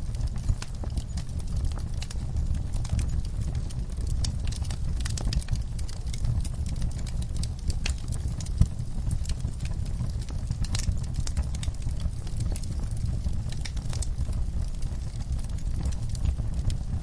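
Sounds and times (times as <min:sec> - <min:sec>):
fire rumbling: 0:00.0 - 0:17.0
logs crackling and popping: 0:00.0 - 0:17.0.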